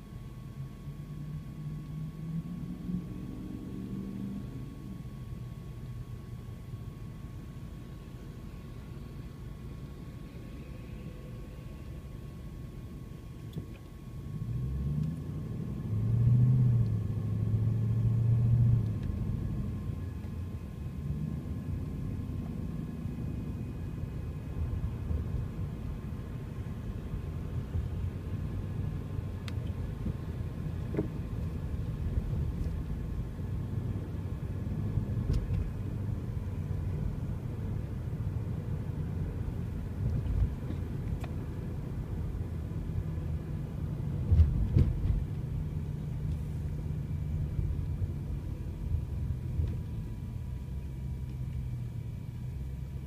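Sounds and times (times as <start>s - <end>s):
road rumble while cruising: 0.0s - 53.0s
car engine accelerating: 1.2s - 5.0s, 14.3s - 53.0s.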